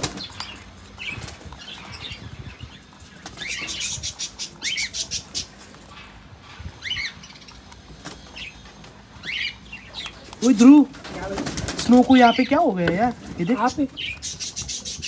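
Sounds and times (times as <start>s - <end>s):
birds chirping: 0.0s - 15.0s
rabbits crunching food: 0.0s - 15.0s.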